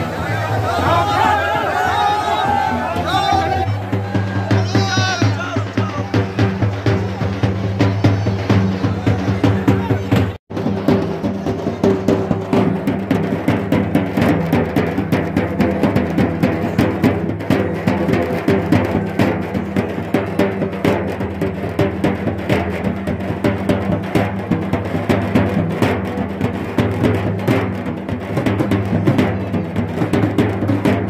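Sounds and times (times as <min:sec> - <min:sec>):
drums beaten fast: 0:00.0 - 0:31.0
large crowd noise: 0:00.0 - 0:31.0.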